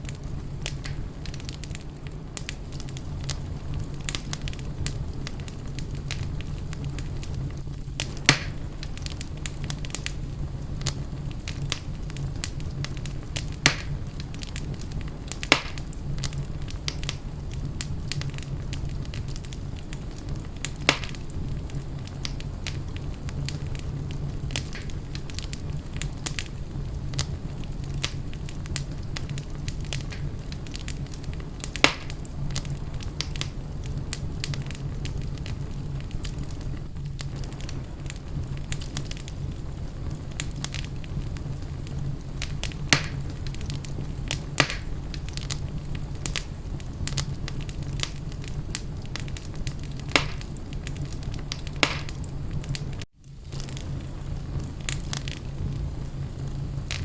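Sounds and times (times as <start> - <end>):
fire crackling and popping: 0.0 - 57.0
wood fire flames rumbling: 0.0 - 57.0.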